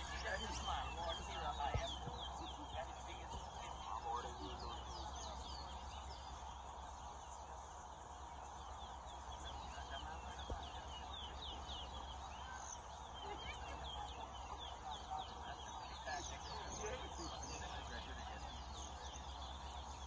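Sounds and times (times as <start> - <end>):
finches chirping and whistling: 0.0 - 20.0
low background murmur: 0.0 - 20.0.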